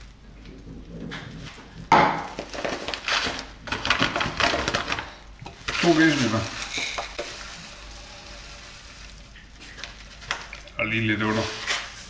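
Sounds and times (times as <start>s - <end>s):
plastic bag crinkling: 2.2s - 12.0s
oats pouring into plastic cup: 2.3s - 12.0s.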